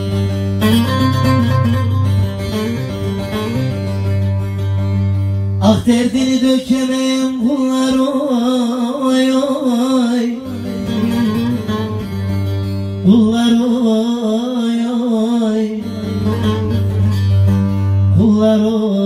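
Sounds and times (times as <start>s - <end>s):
long-necked lute folk tune: 0.0s - 19.0s.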